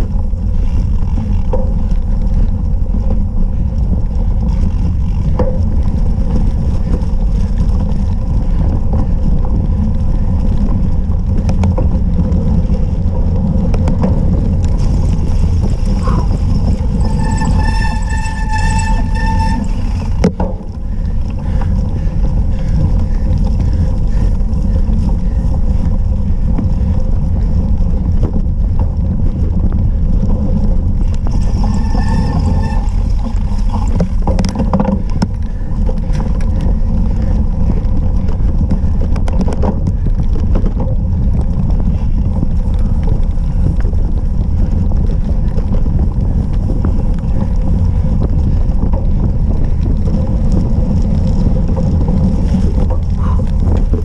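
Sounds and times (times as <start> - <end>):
bike tyres rolling over grass: 0.0 - 54.0
wind buffeting microphone: 0.0 - 54.0.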